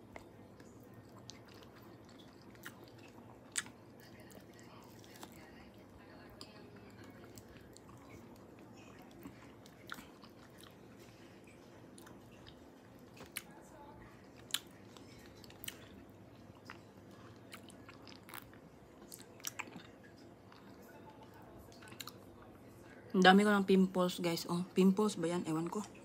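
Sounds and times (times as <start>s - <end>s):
close-up chewing and mouth sounds: 0.0s - 23.0s.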